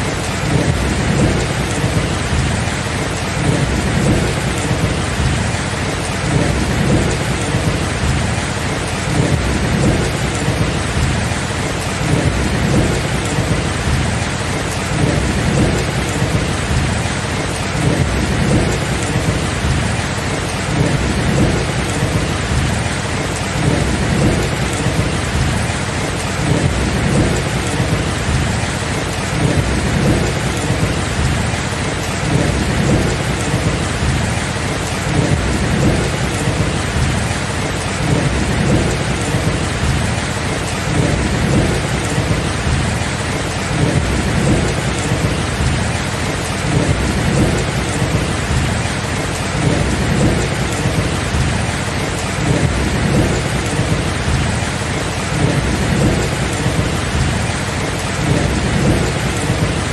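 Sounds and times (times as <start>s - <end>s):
heavy rain: 0.0s - 59.9s
low rumble of thunder: 0.3s - 59.9s.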